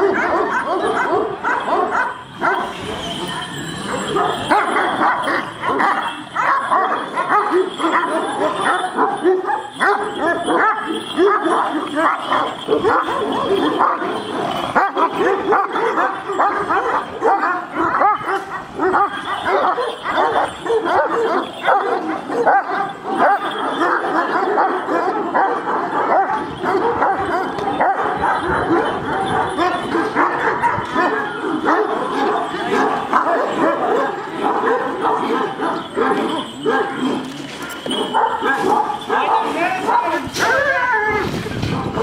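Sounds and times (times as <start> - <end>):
dogs barking aggressively: 0.0 - 42.0.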